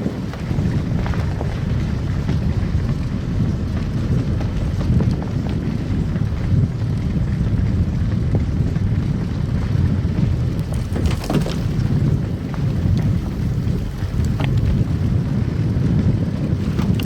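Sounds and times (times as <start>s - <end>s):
car tyres and engine rumbling: 0.0s - 17.0s.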